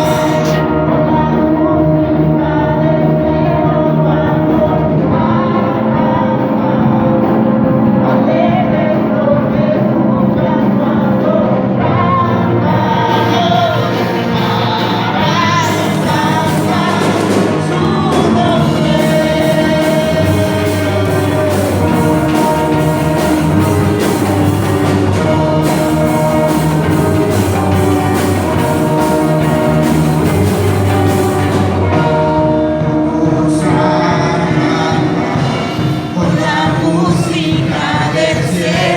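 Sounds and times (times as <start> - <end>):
bass line: 0.0 - 38.9
people singing: 0.0 - 38.9
worship band playing: 0.0 - 38.9.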